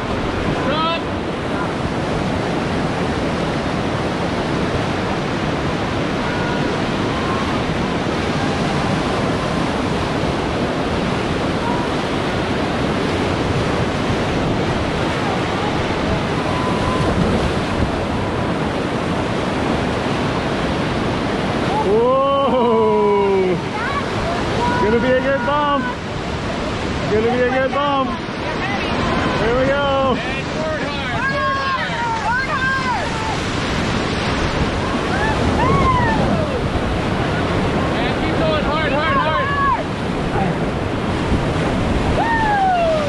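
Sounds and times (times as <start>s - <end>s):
wind buffeting microphone: 0.0s - 22.0s, 23.1s - 43.0s
river rapids rushing: 0.0s - 43.0s.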